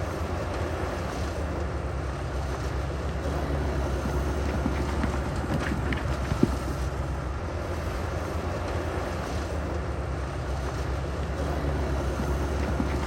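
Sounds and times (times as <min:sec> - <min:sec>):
diesel machinery rumbling: 0:00.0 - 0:13.0.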